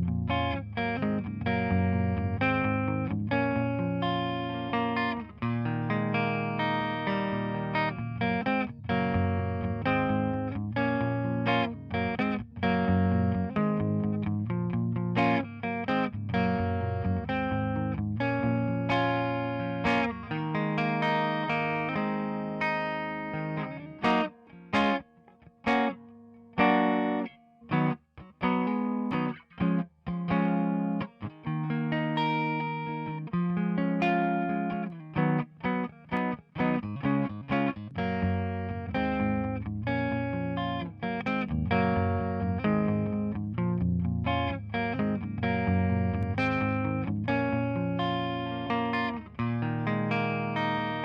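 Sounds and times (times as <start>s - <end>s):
overdriven electric guitar: 0.0s - 51.0s.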